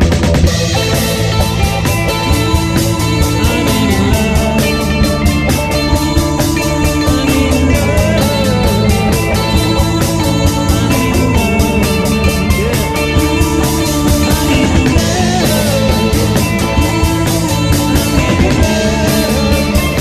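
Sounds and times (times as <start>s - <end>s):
drum kit steady beat: 0.0s - 20.0s
rock guitars: 0.0s - 20.0s.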